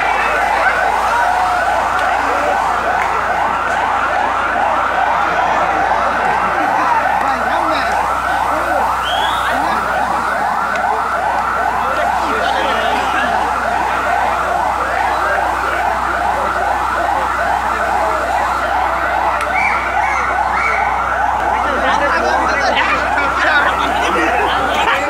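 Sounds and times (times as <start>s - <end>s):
faint crowd voices: 0.0s - 25.0s
fire engine siren yelping: 0.0s - 25.0s.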